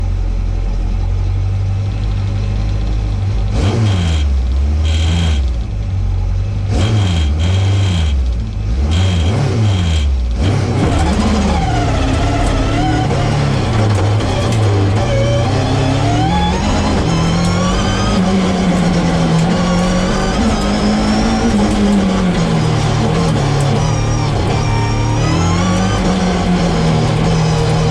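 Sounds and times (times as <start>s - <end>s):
race engine revving: 3.3s - 5.7s, 6.6s - 27.9s.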